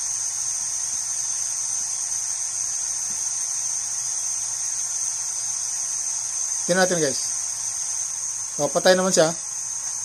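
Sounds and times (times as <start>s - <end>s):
pump high-pitched whine: 0.0s - 10.0s.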